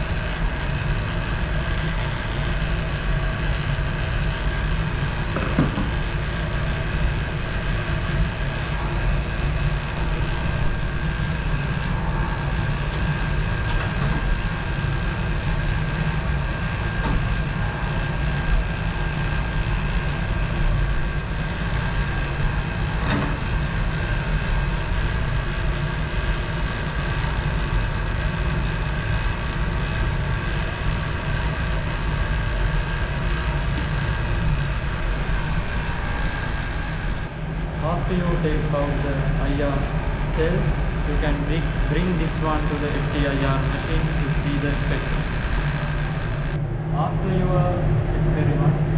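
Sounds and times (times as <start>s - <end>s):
vacuum pump humming: 0.0s - 48.9s.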